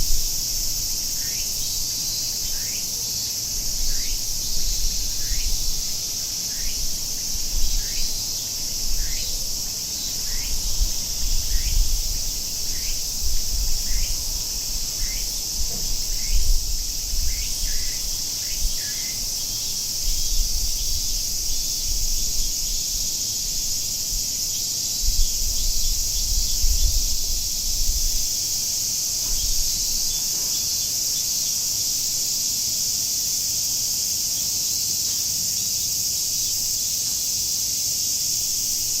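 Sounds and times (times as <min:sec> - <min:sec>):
cicadas shrilling: 0:00.0 - 0:39.0.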